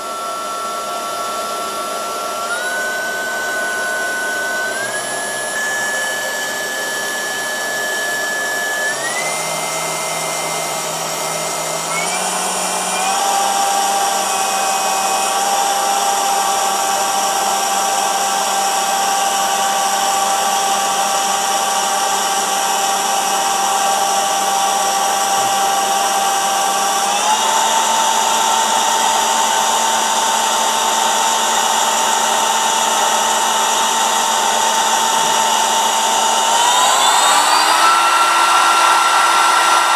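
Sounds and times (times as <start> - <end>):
spindle motor whine: 0.0 - 39.9.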